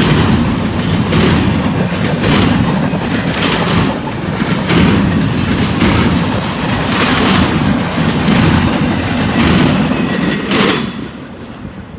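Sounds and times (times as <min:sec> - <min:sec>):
wheels clacking over rail: 0:00.0 - 0:11.1
freight train rumbling past: 0:00.0 - 0:11.9.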